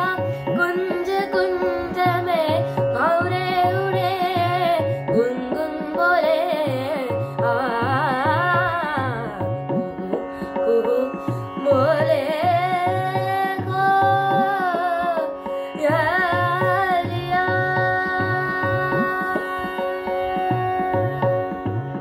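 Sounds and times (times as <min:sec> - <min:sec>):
boy singing: 0:00.0 - 0:22.0.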